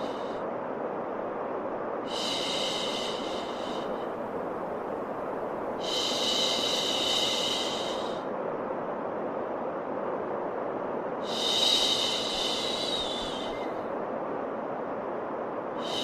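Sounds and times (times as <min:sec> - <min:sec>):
steady white noise: 0:00.0 - 0:16.0.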